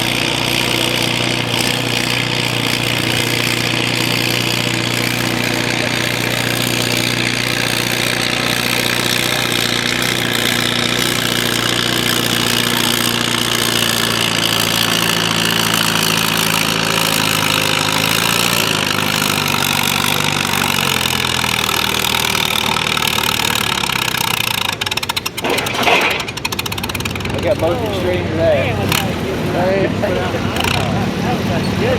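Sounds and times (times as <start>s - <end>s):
tractor engine under load: 0.0s - 31.9s.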